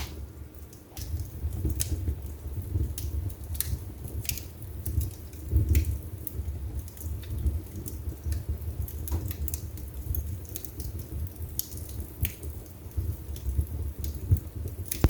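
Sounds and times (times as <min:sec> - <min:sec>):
fire flames rumbling: 0:00.0 - 0:15.0
wood fire crackling and popping: 0:00.0 - 0:15.0.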